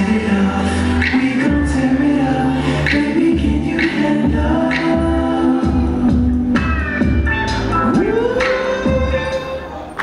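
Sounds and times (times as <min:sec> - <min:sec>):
deep bass beat: 0:00.0 - 0:09.5
pop song with sung vocals: 0:00.0 - 0:10.0.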